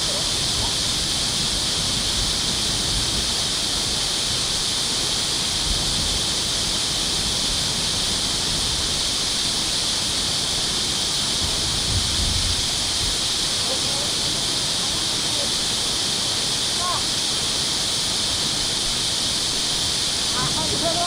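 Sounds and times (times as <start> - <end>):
water rushing through dam: 0.0 - 21.0.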